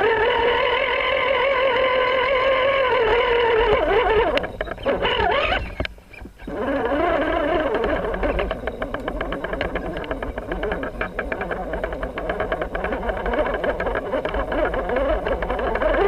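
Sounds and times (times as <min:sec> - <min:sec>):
toy car motor whining: 0:00.0 - 0:16.0.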